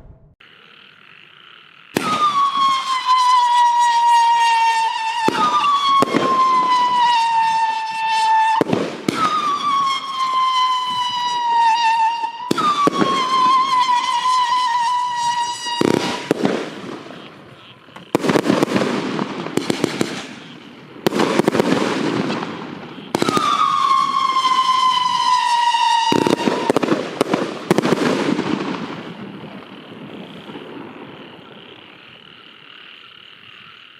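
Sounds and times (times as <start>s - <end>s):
firework bursts with crackling: 0.4s - 33.7s
high falling firework whistles: 1.9s - 31.6s.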